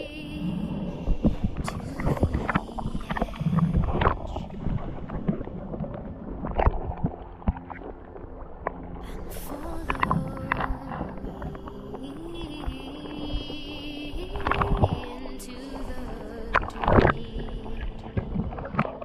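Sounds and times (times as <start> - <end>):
water sloshing and bubbling: 0.0 - 19.0.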